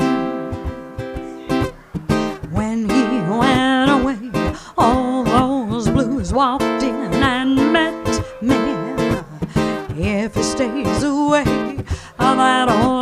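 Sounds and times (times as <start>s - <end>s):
ukulele strumming jazz chords: 0.0s - 13.0s
woman singing jazz: 2.3s - 13.0s.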